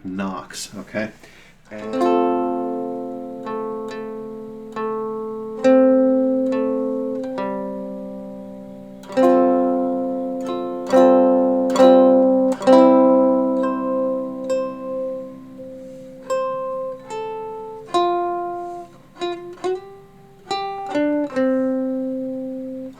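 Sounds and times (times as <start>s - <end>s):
ukulele chords through amplifier: 1.7s - 22.9s.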